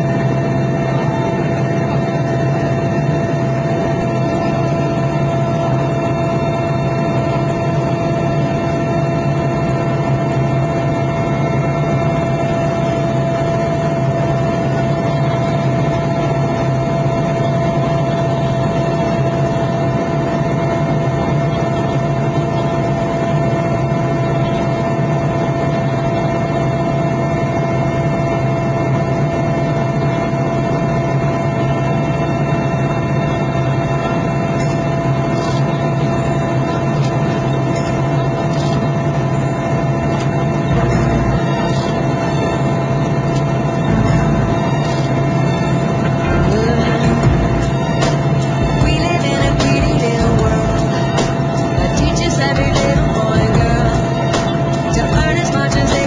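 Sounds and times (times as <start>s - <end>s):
constant whine: 0.0s - 56.0s
helicopter engine and rotor drone: 0.0s - 56.0s.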